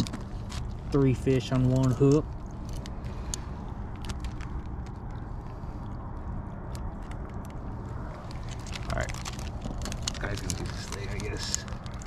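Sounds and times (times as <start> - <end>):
crabs clicking in plastic bag: 0.0 - 5.3, 6.6 - 12.0
steady low rumble: 0.0 - 12.0.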